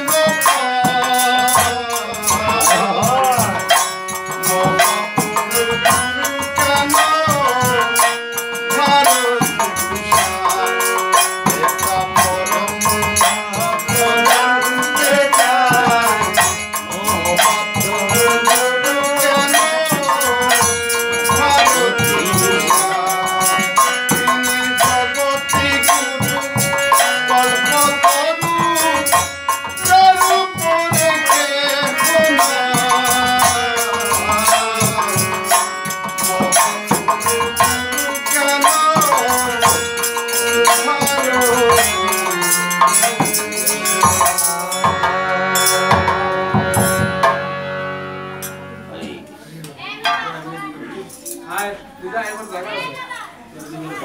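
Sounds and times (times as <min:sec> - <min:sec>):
man singing: 0:00.0 - 0:47.5
jingling percussion: 0:00.0 - 0:48.9, 0:49.9 - 0:54.0
harmonium: 0:00.0 - 0:54.0.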